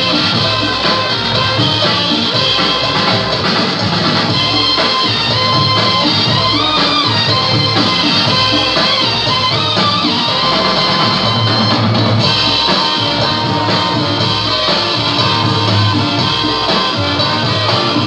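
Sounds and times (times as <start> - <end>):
dance music with guitar and drums: 0.0 - 18.0.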